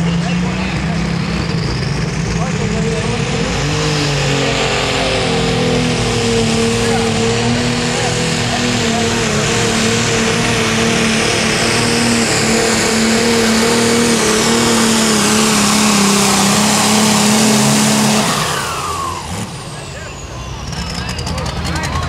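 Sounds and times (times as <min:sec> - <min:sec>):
high turbo whine: 0:00.0 - 0:22.0
tractor diesel engine at full throttle: 0:00.0 - 0:22.0.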